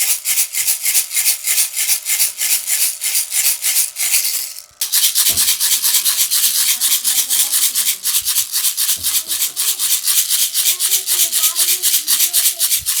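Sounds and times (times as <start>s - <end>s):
baby rattle shaken: 0.0s - 13.0s.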